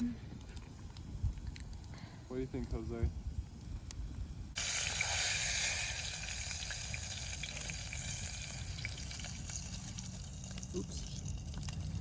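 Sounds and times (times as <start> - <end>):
hot dogs sizzling and popping: 0.3 - 12.0.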